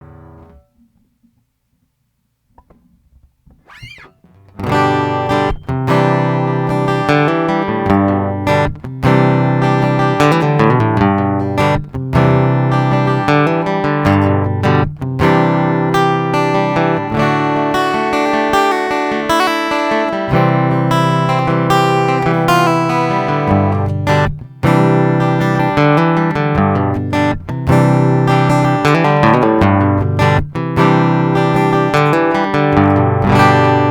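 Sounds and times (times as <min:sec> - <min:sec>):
acoustic guitar playing chords: 0:00.0 - 0:01.0, 0:03.5 - 0:33.9.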